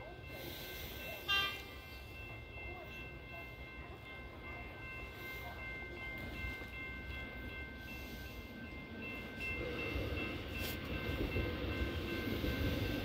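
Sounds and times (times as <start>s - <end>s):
electric train rumble: 0.0s - 13.0s.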